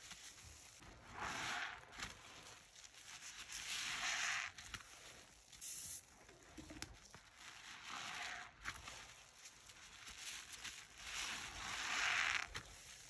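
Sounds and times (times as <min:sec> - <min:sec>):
sponge squishing in suds: 0:00.0 - 0:13.0.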